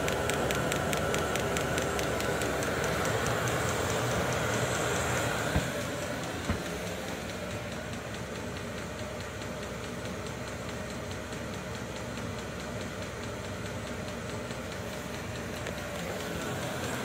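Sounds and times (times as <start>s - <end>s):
fast regular ticking: 0.0s - 17.0s
heater fan and burner hum: 0.0s - 17.0s.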